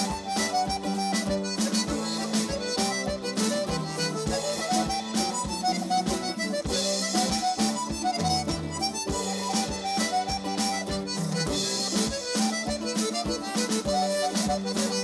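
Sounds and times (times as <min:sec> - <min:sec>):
button accordion melody: 0:00.0 - 0:15.0
even drum beat: 0:00.0 - 0:15.0.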